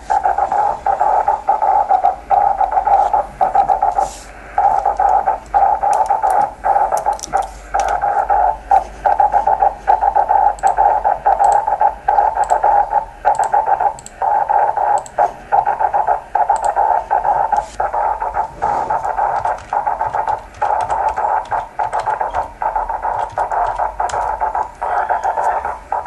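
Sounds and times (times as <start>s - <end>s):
radio static hiss in bursts: 0.0s - 26.0s.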